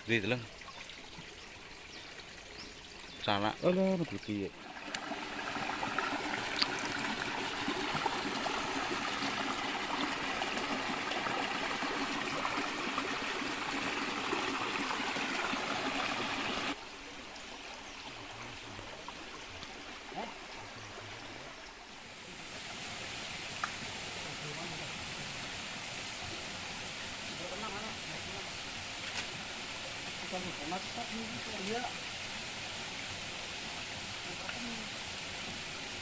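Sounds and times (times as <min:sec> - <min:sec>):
creek water flowing: 0:00.0 - 0:36.0.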